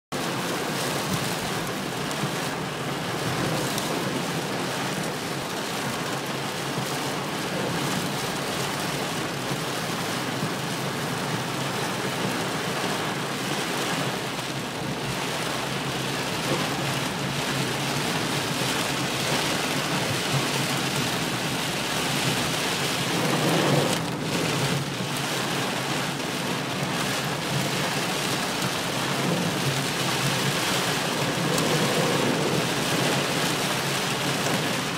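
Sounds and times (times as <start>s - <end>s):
rain pelting car roof: 0.1s - 34.9s.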